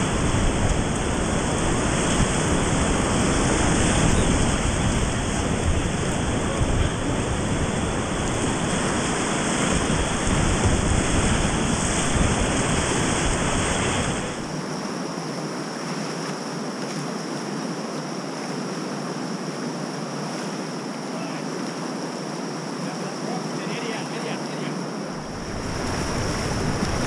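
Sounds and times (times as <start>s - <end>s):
whitewater rapids rushing: 0.0s - 15.0s, 20.1s - 27.0s.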